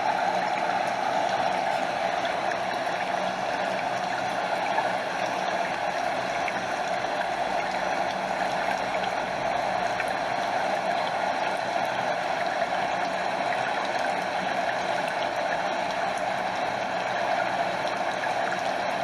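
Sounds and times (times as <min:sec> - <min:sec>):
stream over small waterfall: 0:00.0 - 0:19.0.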